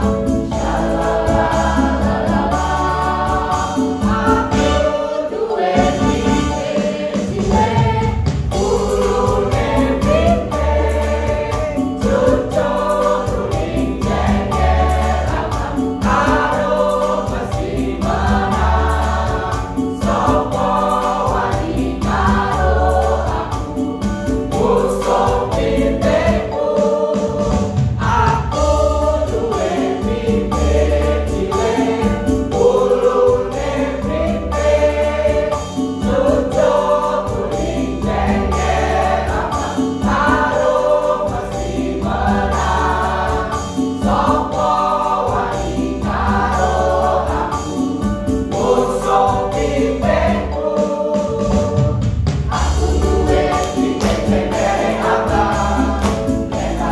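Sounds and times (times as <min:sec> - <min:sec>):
mixed choir singing: 0:00.0 - 0:56.9.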